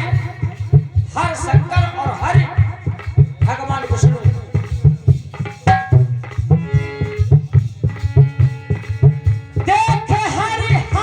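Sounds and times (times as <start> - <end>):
hand drum rhythm: 0.0 - 11.0.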